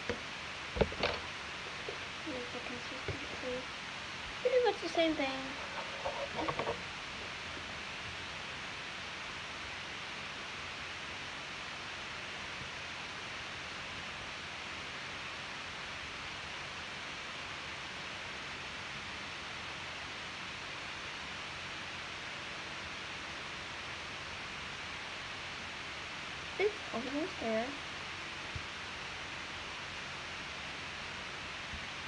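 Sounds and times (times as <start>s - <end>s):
steady background hiss: 0.0s - 32.0s.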